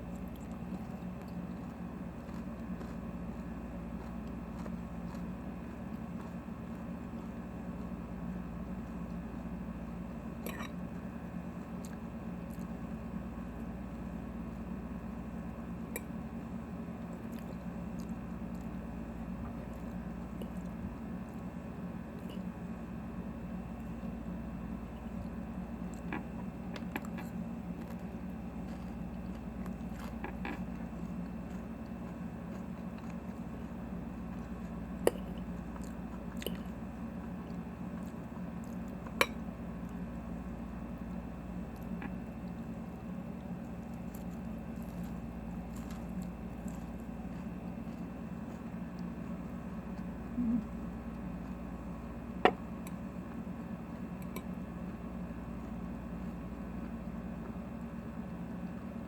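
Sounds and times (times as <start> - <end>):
wet chewing: 0.0 - 14.7, 15.8 - 22.7, 23.7 - 59.0
steady low hum: 0.0 - 59.0.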